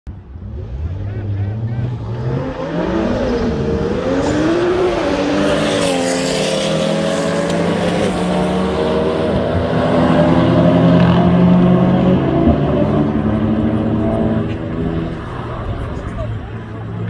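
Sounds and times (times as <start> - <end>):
car engines revving hard: 0.1 - 17.0.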